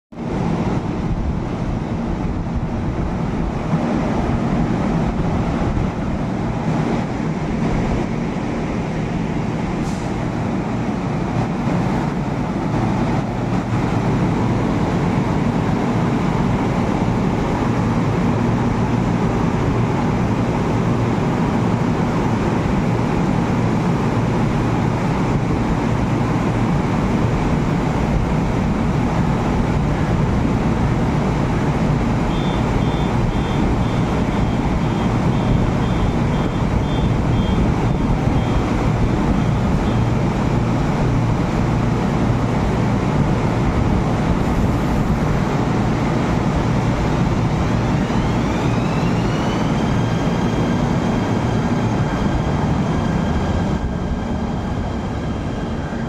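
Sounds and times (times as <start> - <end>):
electric train humming: 0.2 - 56.0.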